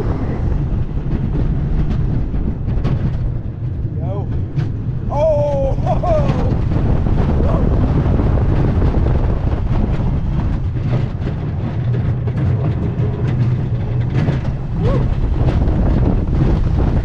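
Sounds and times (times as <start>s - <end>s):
roller coaster train rattling: 0.0s - 17.0s.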